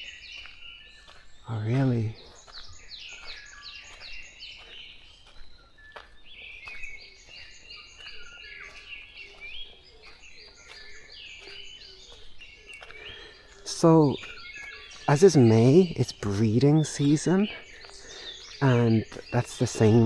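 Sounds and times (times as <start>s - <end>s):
songbirds chirping and whistling: 0.0s - 20.0s.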